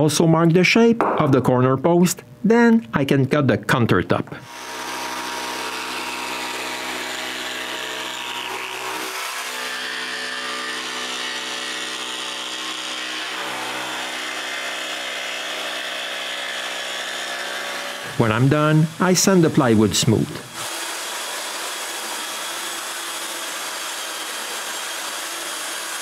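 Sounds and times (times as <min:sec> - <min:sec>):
jigsaw cutting plywood: 0:04.5 - 0:26.0.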